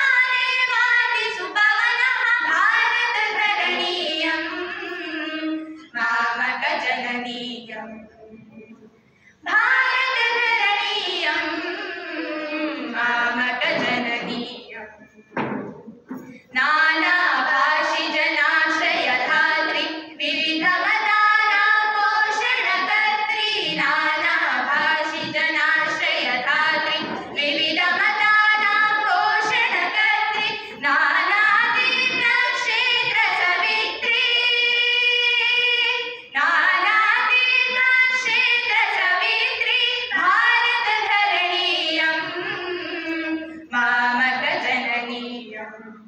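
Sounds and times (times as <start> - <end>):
girls singing through microphones: 0.0 - 46.0.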